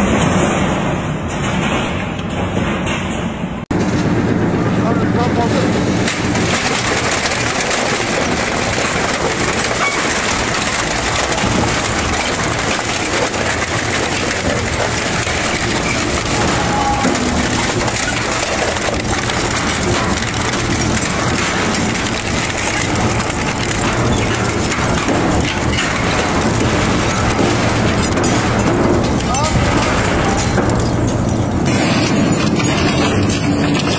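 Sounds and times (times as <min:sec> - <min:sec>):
shredder grinding scrap: 0:05.7 - 0:33.9.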